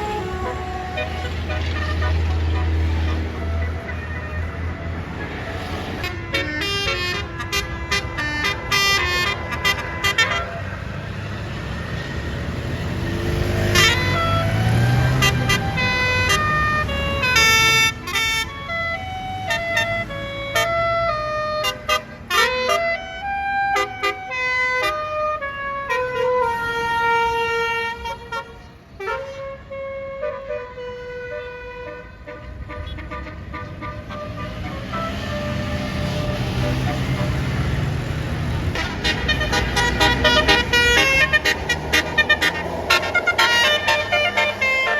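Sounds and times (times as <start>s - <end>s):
musical bus horn playing tune: 0.0s - 11.2s, 13.2s - 44.9s
bus engine running: 0.0s - 29.5s, 30.8s - 44.9s.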